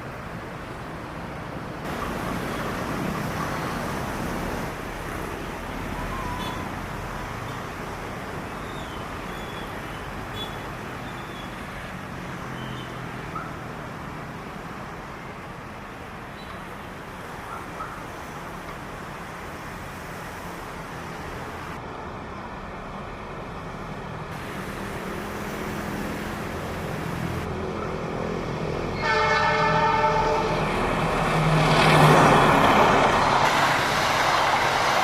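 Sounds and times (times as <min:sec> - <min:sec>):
traffic rushing hum: 0:00.0 - 0:35.0.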